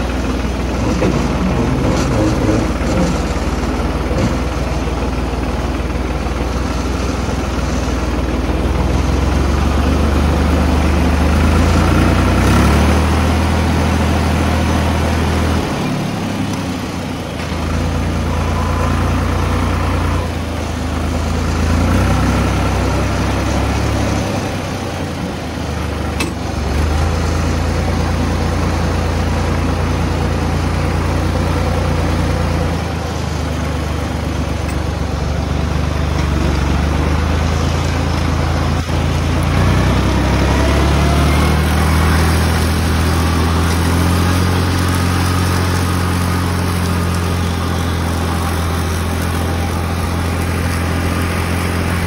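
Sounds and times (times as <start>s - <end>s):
tractor engine running under load: 0.0s - 52.0s.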